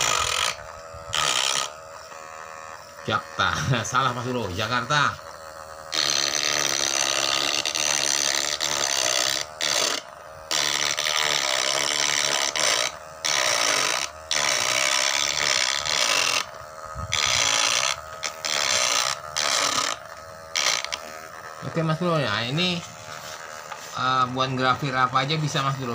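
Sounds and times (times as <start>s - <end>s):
burr grinding wood: 0.0s - 25.9s
electric motor whining: 0.0s - 25.9s.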